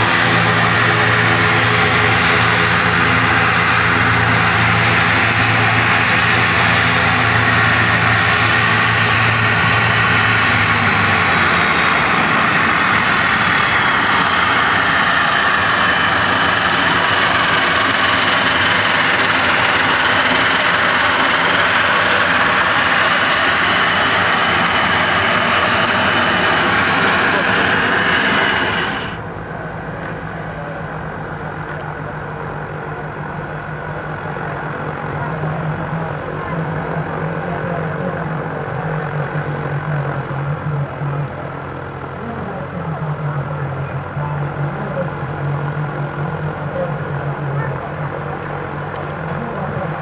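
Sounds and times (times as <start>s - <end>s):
turboprop aircraft taxiing: 0.0s - 50.0s.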